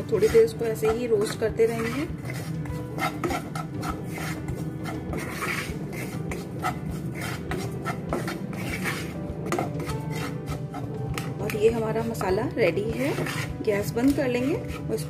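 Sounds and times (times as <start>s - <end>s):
wooden spatula scraping a pan: 0.0s - 15.0s.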